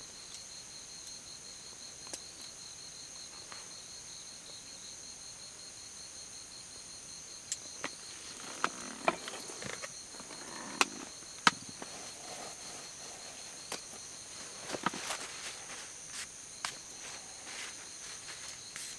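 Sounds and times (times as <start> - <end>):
crickets chirping: 0.0 - 18.9.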